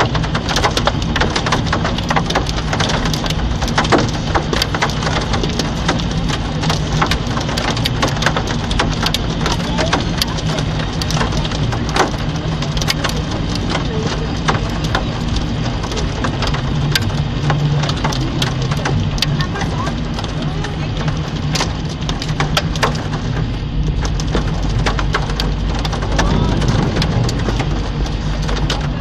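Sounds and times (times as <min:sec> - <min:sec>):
hailstones knocking on hard surfaces: 0:00.0 - 0:29.0
heavy rain hiss: 0:00.0 - 0:29.0
low steady hum: 0:02.2 - 0:29.0.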